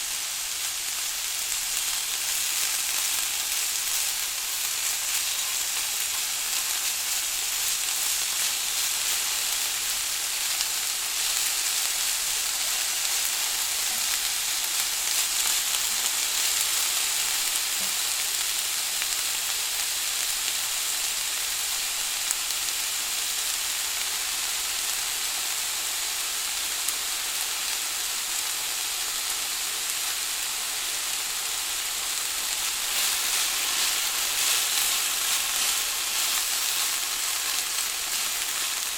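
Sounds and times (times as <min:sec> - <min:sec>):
vegetables sizzling in a pan: 0:00.0 - 0:38.9.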